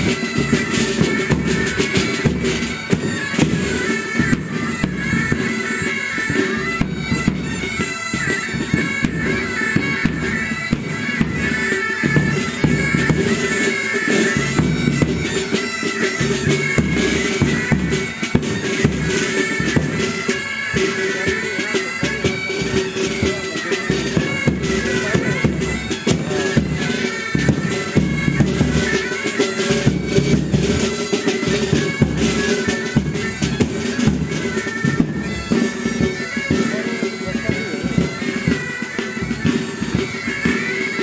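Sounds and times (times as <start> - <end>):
bagpipes playing: 0.0 - 41.0
drums beating: 0.0 - 41.0.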